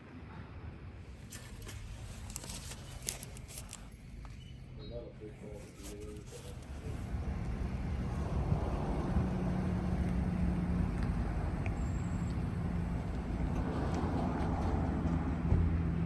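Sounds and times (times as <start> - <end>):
road noise: 0.8 - 16.0
vehicle engine drone: 1.1 - 16.0.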